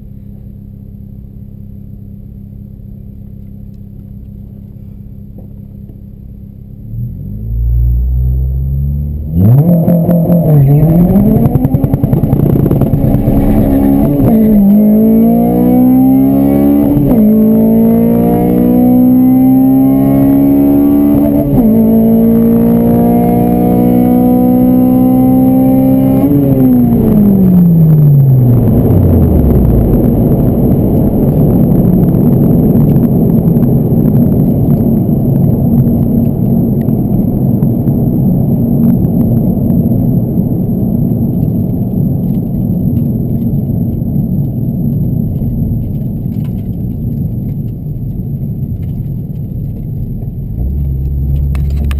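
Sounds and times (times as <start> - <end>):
wind and tyre noise: 4.0 - 51.9
car engine revving then falling: 6.7 - 51.9.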